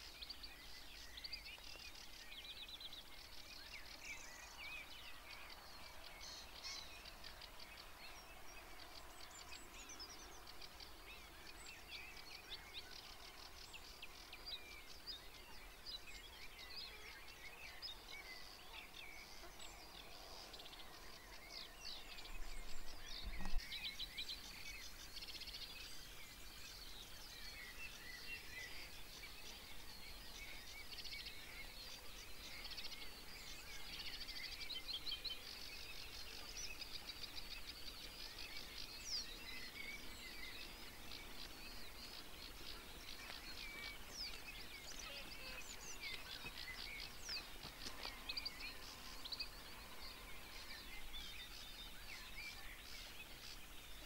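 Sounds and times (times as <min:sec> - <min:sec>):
faint outdoor background noise: 0:00.0 - 0:54.0
songbirds singing: 0:00.0 - 0:54.0.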